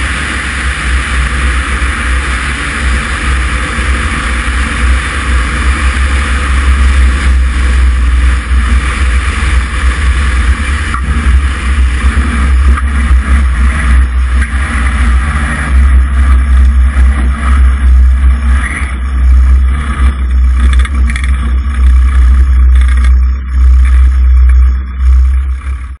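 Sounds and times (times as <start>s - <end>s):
light aircraft engine and propeller: 0.0s - 26.0s.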